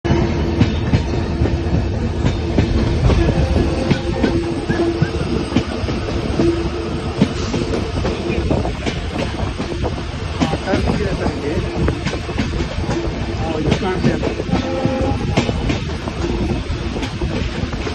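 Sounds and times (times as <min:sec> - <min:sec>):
train rumble: 0:00.0 - 0:17.9.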